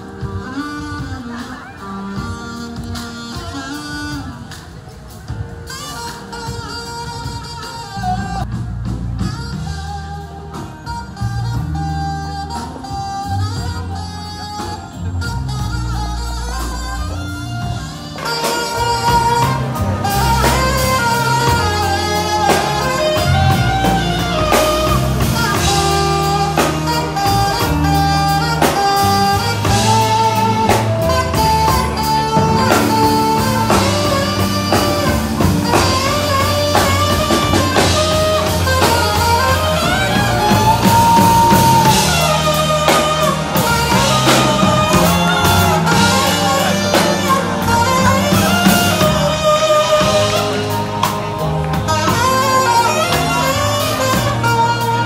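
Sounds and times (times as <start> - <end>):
blues-rock band music: 0.0 - 55.0.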